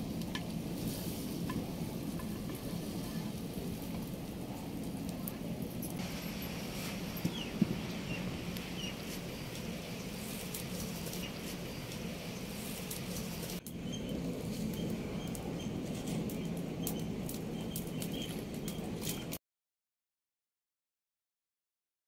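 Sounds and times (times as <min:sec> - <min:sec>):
background hiss with crackles: 0:00.0 - 0:19.3.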